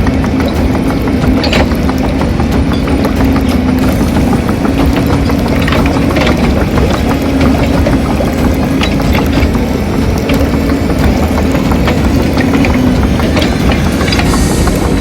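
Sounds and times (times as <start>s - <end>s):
toy excavator motor hum: 0.0s - 15.0s.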